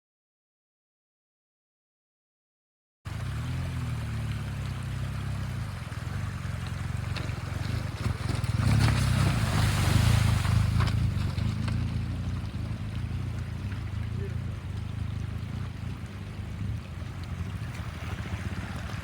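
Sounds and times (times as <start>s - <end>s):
motorcycle engine running: 3.1s - 19.0s
water splashing: 3.1s - 19.0s.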